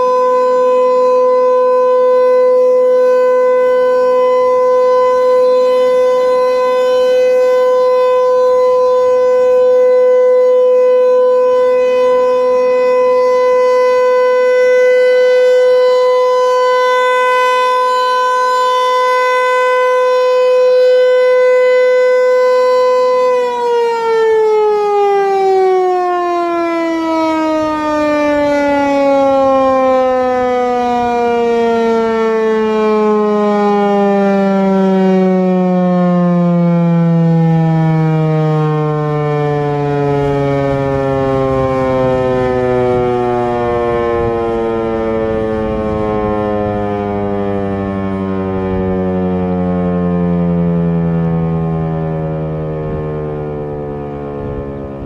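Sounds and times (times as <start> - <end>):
tornado siren: 0.0 - 55.0.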